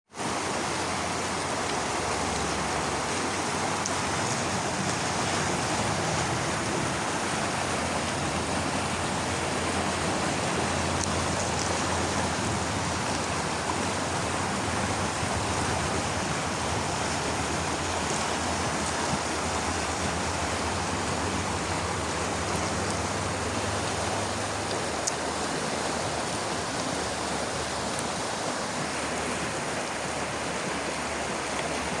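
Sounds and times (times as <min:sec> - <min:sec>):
flowing water rushing: 0:00.1 - 0:32.0.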